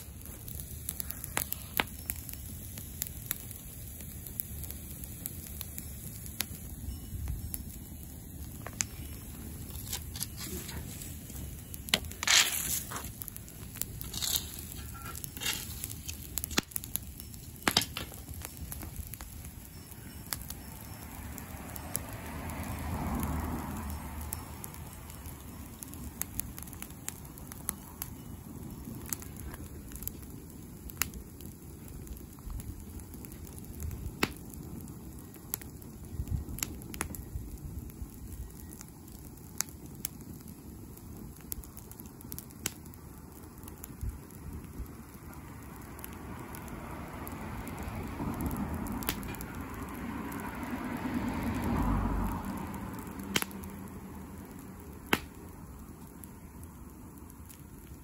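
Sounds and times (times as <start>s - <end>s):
fire crackling and popping: 0.0s - 58.0s
rush of flame: 0.0s - 58.0s.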